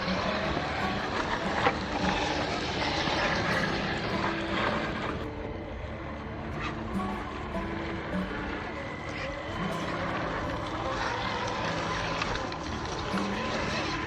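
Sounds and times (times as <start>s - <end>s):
small electric motor running: 0.0s - 14.0s.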